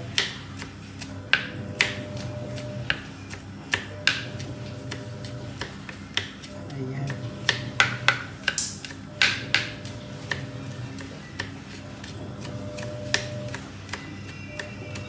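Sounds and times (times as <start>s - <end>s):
knife chopping on cutting board: 0.0s - 15.0s.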